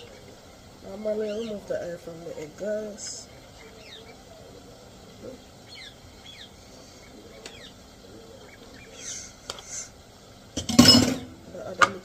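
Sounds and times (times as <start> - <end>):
small birds chirping: 0.0 - 10.6
faint background hiss: 0.0 - 12.0.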